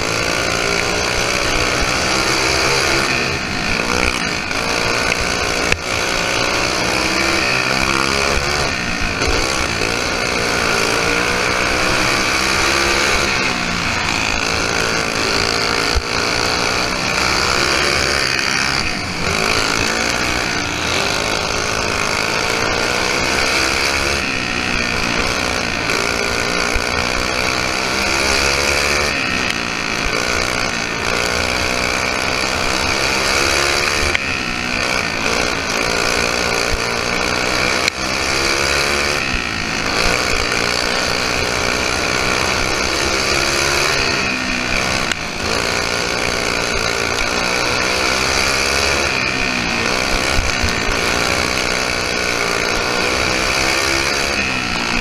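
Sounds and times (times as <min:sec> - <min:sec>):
kart engine at full throttle: 0:00.0 - 0:55.0.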